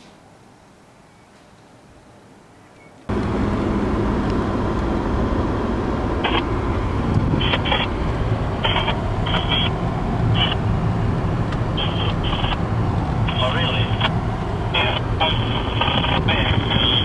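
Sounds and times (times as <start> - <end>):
car engine running: 3.1 - 17.0.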